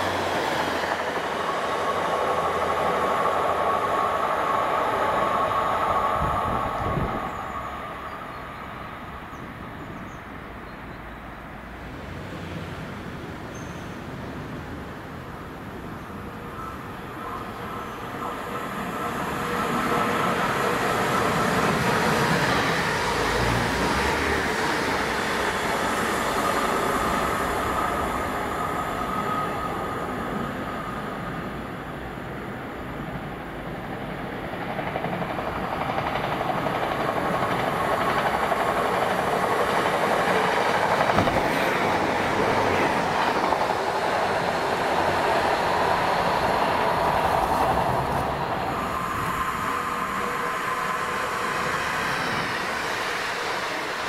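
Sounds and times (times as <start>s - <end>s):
passenger train passing: 0.0s - 54.0s.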